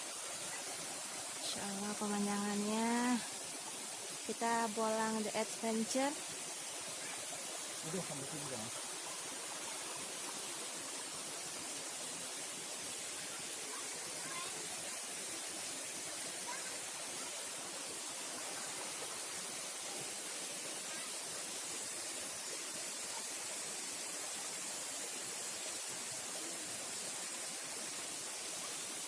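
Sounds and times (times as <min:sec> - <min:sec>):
flowing water rushing: 0:00.0 - 0:29.0.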